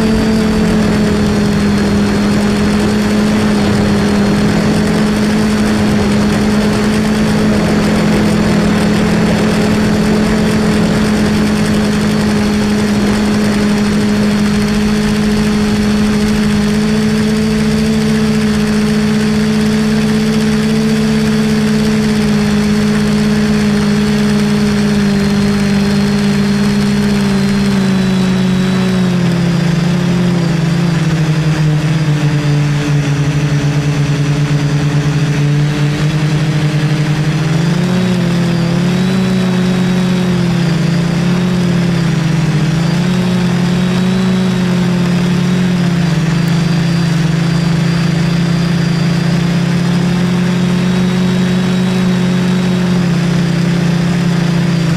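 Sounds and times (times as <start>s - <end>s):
drone motors and propellers humming: 0.0s - 54.9s.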